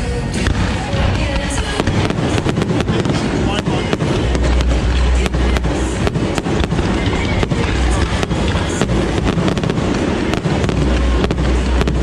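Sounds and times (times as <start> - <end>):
fireworks bangs and crackles: 0.2 - 12.0
low steady background rumble: 1.9 - 12.0.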